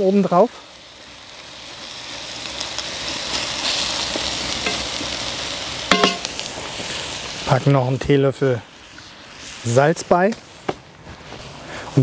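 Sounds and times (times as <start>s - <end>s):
meat and vegetables sizzling: 0.0s - 12.0s.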